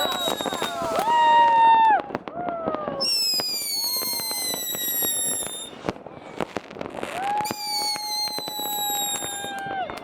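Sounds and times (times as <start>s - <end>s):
firework bangs and crackles: 0.0s - 10.0s
whistling rockets: 0.0s - 10.0s.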